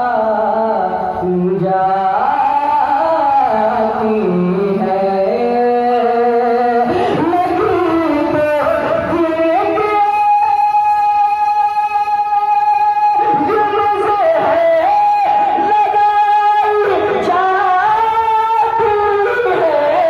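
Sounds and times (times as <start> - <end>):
man singing devotional song: 0.0 - 20.0.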